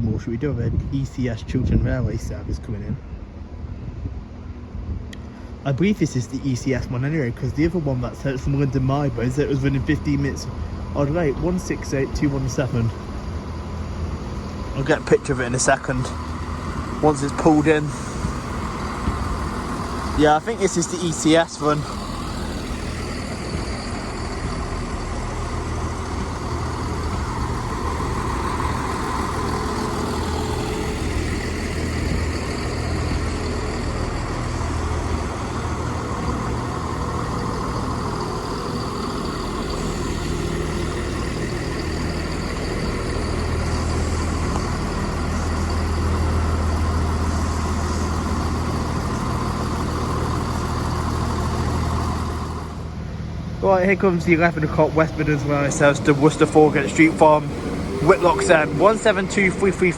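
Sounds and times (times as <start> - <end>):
diesel train engines humming: 0.0 - 59.9.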